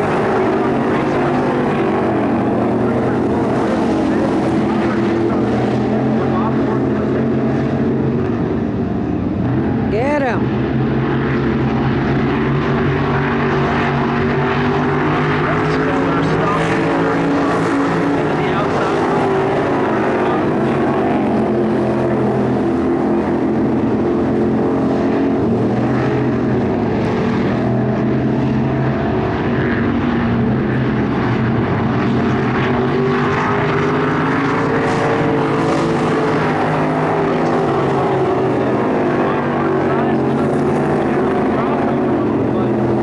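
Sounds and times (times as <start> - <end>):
race car engines: 0.0 - 43.0.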